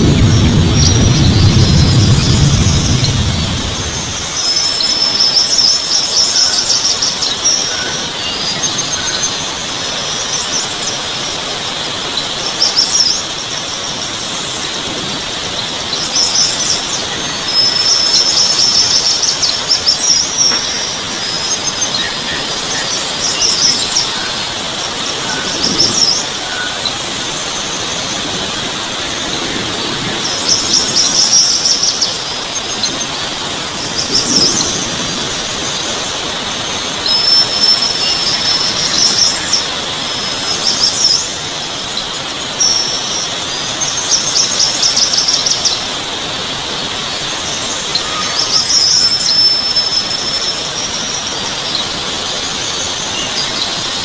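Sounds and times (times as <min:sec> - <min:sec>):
birds chirping and trilling: 0:00.0 - 0:54.0
high-pitched insect drone: 0:00.0 - 0:54.0.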